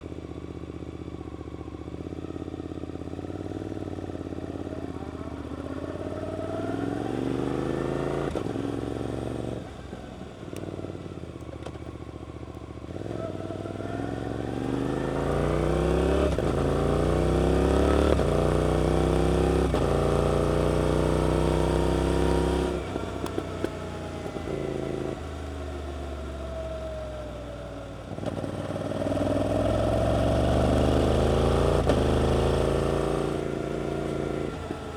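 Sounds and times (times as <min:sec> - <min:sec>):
motorcycle accelerating through gears: 0:00.0 - 0:34.9.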